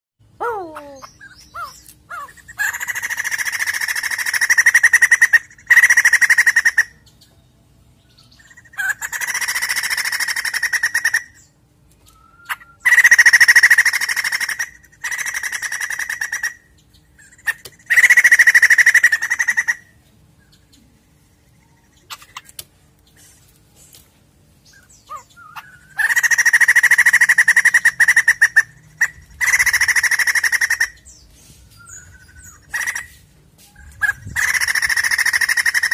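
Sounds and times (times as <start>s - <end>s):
bird chattering calls: 0.6s - 7.1s, 8.4s - 11.5s, 12.3s - 20.0s, 21.7s - 23.4s, 24.6s - 31.2s, 31.8s - 35.9s.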